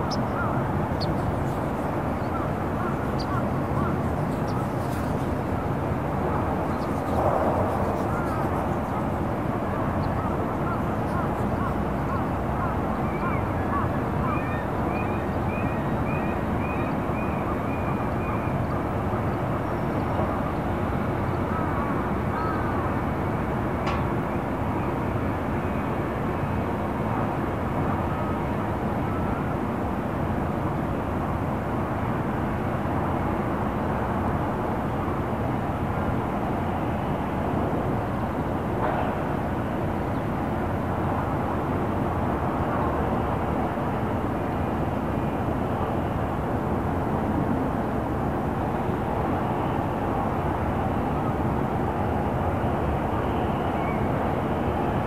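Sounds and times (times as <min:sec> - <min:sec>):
distant city traffic rumble: 0:00.0 - 0:55.0
faint steady hum: 0:00.0 - 0:55.0.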